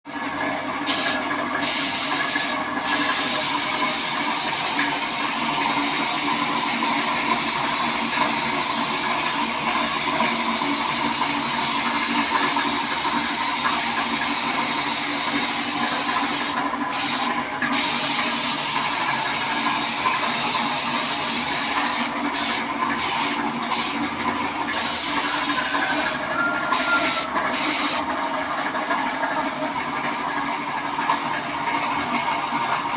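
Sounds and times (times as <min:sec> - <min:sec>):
machine running: 0:00.8 - 0:30.0
high-pressure spray hissing: 0:00.9 - 0:24.0, 0:24.7 - 0:28.0.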